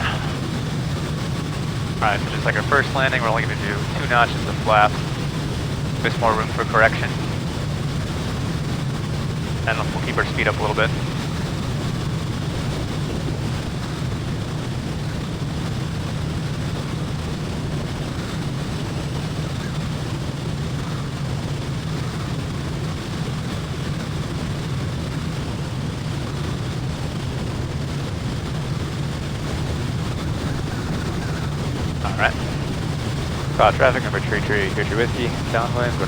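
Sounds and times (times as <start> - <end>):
propeller aircraft engine droning: 0.0 - 36.0.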